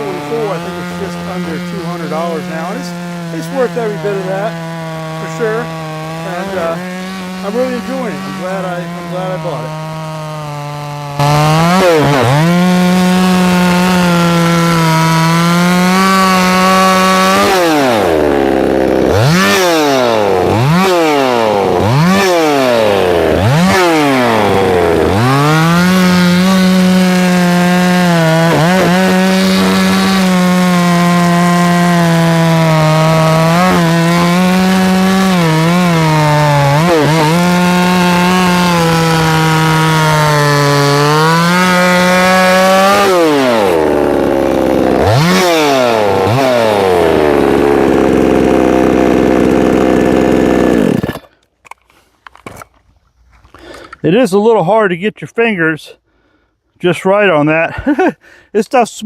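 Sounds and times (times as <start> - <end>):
chainsaw revving: 0.0 - 51.4, 57.7 - 58.4.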